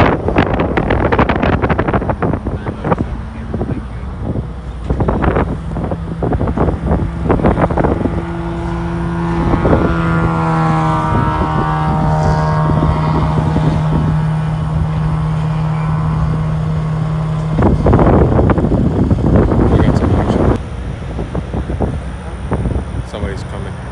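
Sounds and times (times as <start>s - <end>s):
low engine hum: 0.0s - 23.9s
vehicle passing by: 0.0s - 23.9s
wind buffeting microphone: 0.0s - 23.9s.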